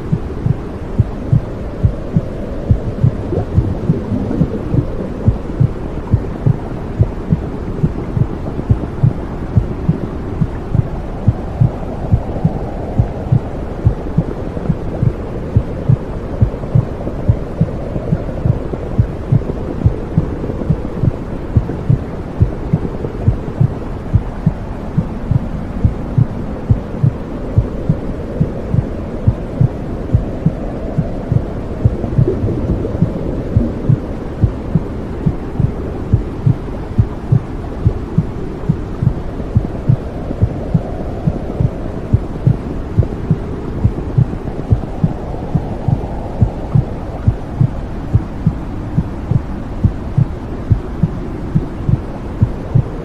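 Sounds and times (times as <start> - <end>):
heartbeat thumping: 0.0 - 53.0
muffled low rushing noise: 0.0 - 53.0.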